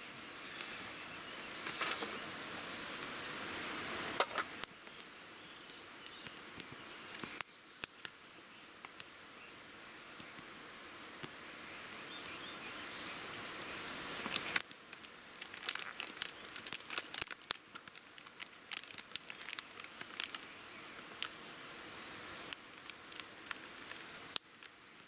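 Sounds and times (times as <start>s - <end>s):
hiss of flames: 0.0s - 25.0s
wood fire crackling and popping: 1.5s - 3.4s, 4.1s - 9.2s, 10.0s - 21.4s, 22.2s - 25.0s.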